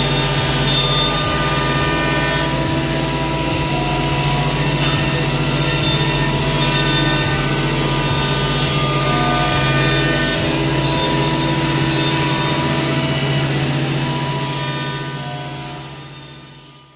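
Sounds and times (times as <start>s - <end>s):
router spindle whining: 0.0s - 16.9s.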